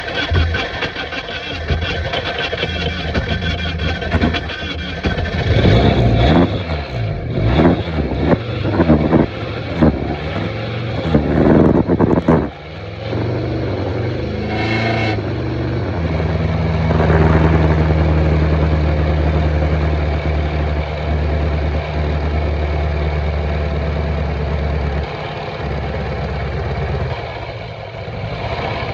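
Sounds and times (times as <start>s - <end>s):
car engine revs surging: 0.0s - 23.4s.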